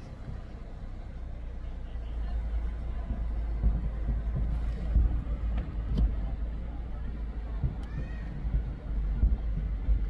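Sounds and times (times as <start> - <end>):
car road and engine rumble: 0.0 - 10.0
dull low thumps: 0.0 - 10.0.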